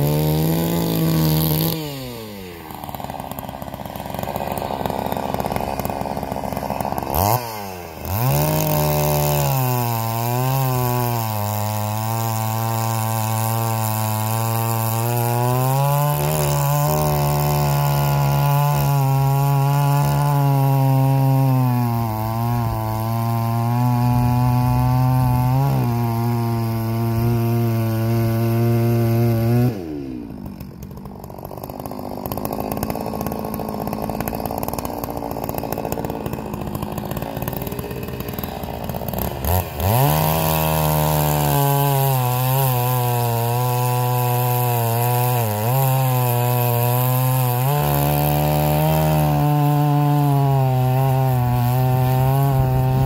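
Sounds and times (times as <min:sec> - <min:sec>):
chainsaw cutting logs: 0:00.0 - 0:53.0
chainsaw idling: 0:00.0 - 0:53.0.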